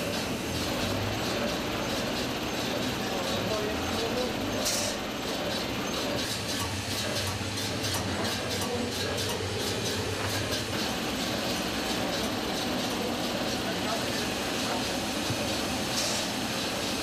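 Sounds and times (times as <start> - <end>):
rapid machine clicking: 0.0 - 17.0.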